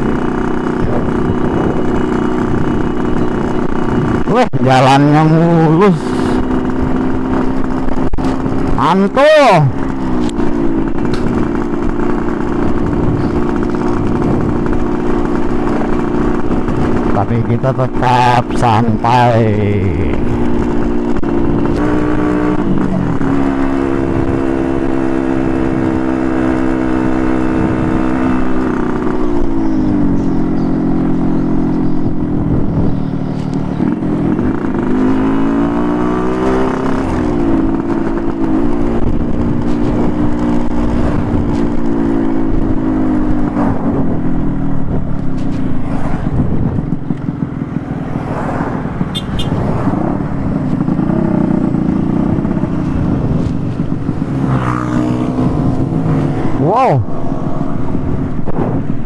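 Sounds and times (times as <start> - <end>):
two-stroke motorcycle engine: 0.0 - 59.0.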